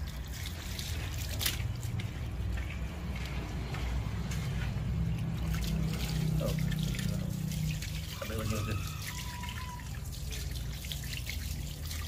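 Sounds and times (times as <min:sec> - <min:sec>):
hose water splashing on dog: 0:00.0 - 0:12.0
water drips and small splashes: 0:00.0 - 0:12.0.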